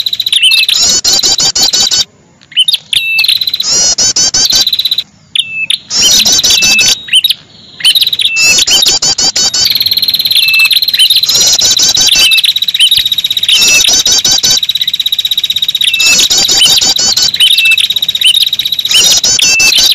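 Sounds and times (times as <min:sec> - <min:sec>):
bird high chirp phrases: 0:00.0 - 0:19.9
bird hooked whistles: 0:00.0 - 0:19.9
fast buzzing bird trill: 0:00.0 - 0:19.9.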